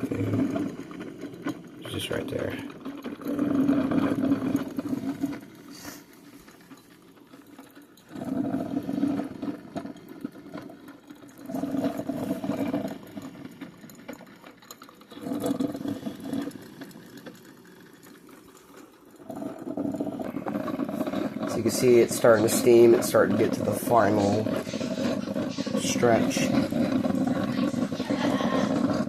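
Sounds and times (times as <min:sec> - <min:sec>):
coffee maker gurgling and sputtering: 0:00.0 - 0:29.0.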